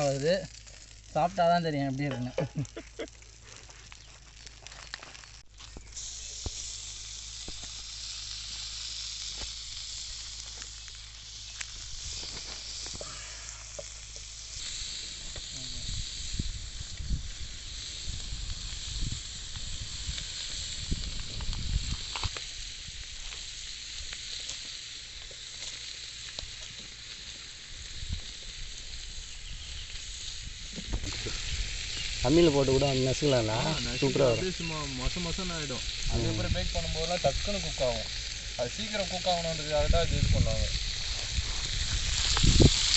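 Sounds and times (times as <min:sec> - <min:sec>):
food sizzling in hot oil: 0:00.0 - 0:42.9.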